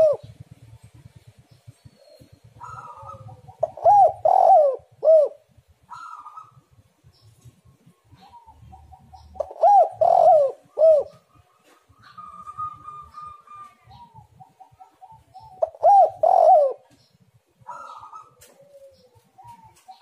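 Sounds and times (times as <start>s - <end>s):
faint bird chirps: 0.0s - 3.8s, 5.9s - 20.0s
dove cooing: 0.0s - 6.8s, 7.5s - 20.0s.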